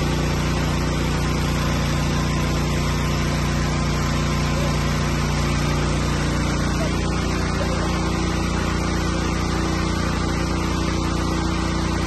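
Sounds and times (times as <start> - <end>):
mist spraying: 0.0 - 12.0
power sprayer engine droning: 0.0 - 12.0.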